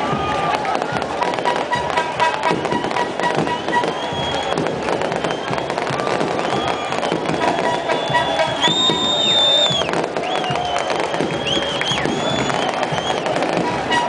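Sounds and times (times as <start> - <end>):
fireworks crackling and popping: 0.0 - 14.0
stadium crowd noise: 0.0 - 14.0
fireworks whistling: 0.1 - 14.0.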